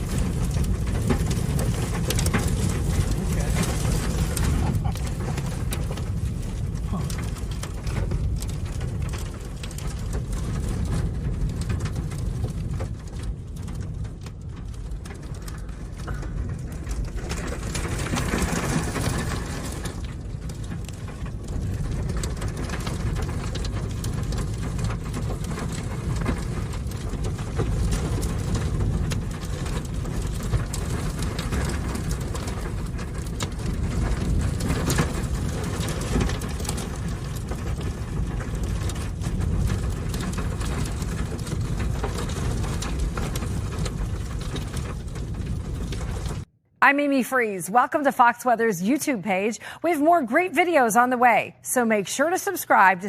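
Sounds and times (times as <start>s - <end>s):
strong wind buffeting microphone: 0.0s - 46.5s.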